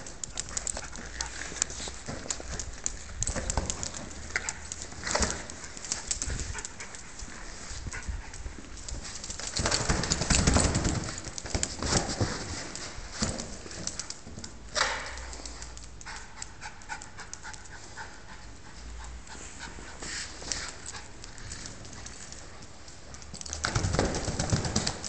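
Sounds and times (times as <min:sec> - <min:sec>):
dog claws clicking on marble floor: 0:00.0 - 0:25.0.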